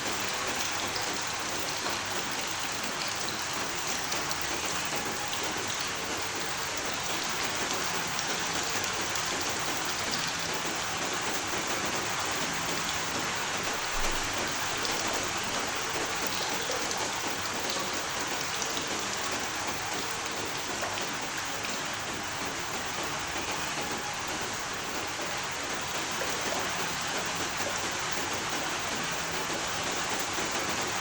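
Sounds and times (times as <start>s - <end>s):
rain falling: 0.0s - 31.0s
ticks of raindrops: 0.0s - 31.0s.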